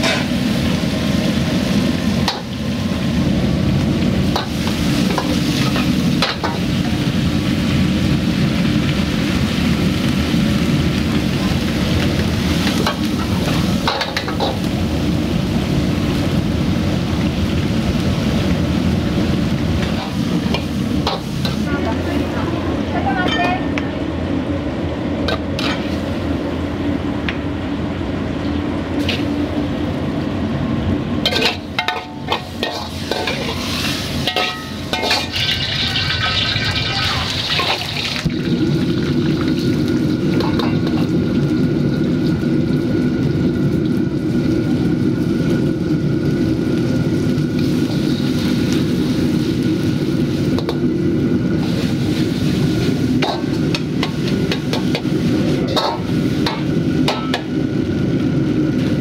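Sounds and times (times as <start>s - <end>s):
frying sizzle: 0.0s - 23.6s, 24.2s - 27.6s, 28.3s - 59.0s.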